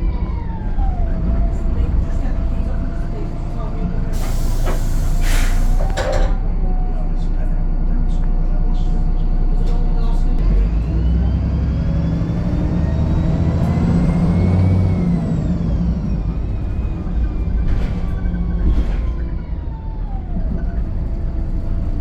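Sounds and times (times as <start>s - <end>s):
bus diesel engine pulling away: 0.0s - 22.0s
engine whine: 0.0s - 22.0s.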